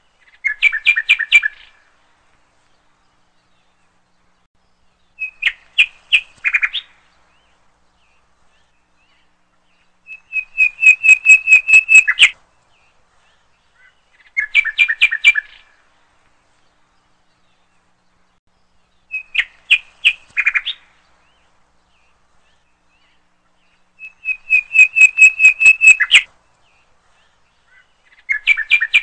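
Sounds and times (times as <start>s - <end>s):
bird chirping: 0.0s - 29.0s.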